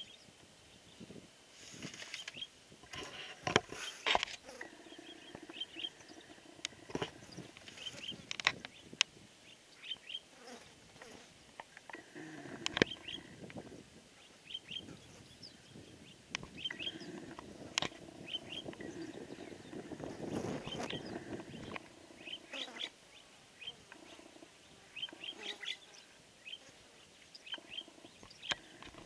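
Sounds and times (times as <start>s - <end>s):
birds chirping: 1.9s - 29.0s.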